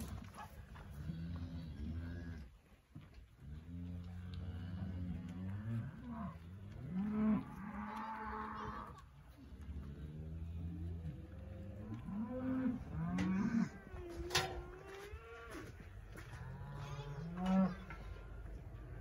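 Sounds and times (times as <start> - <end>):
calves mooing: 3.5 - 19.0.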